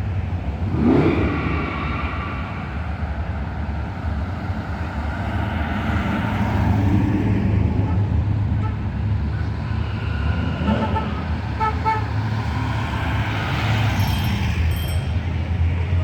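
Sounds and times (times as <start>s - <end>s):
car engines passing: 0.0s - 16.0s.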